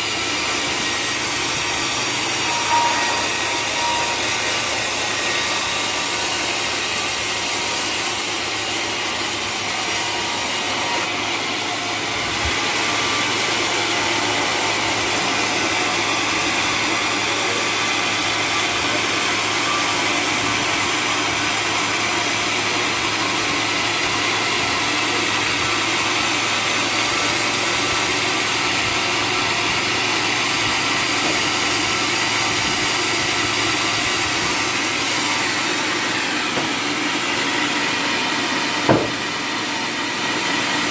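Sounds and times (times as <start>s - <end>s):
saw blade cutting hardwood: 0.0s - 40.9s.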